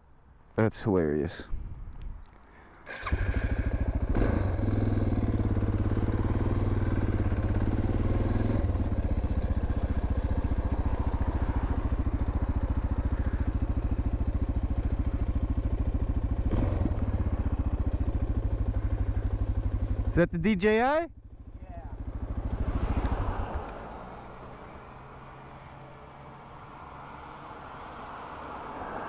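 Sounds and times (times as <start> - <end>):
motorcycle engine starting and running: 2.8 - 28.8.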